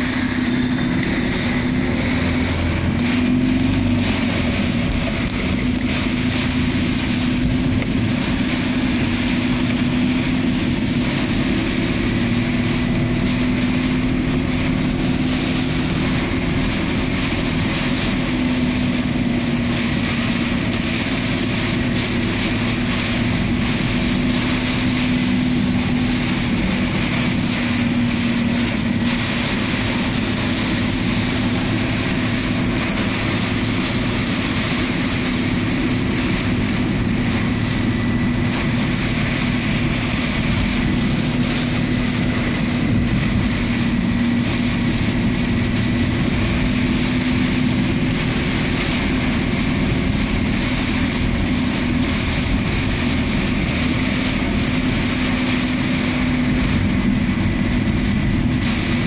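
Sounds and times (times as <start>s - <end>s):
car engine hum: 0.0s - 59.0s
heavy rain on car roof: 0.0s - 59.0s
tyres on wet road: 0.0s - 59.0s.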